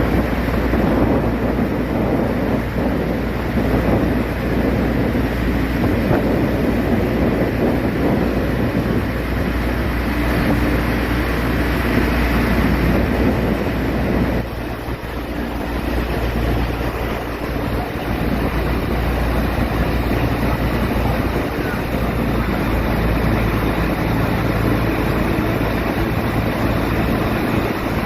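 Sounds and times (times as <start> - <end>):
ferry engine humming: 0.0 - 28.0
water noise: 0.0 - 28.0
wind on microphone: 0.0 - 28.0.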